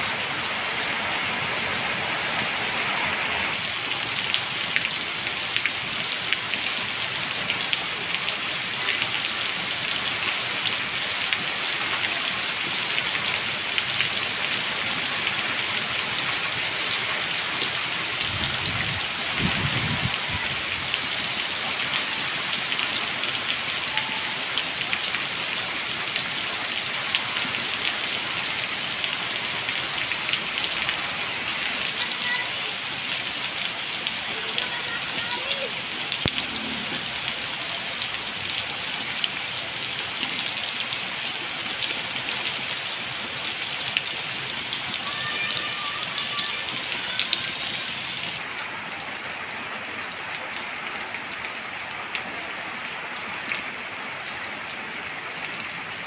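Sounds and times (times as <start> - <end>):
rain on standing water: 0.0 - 56.0.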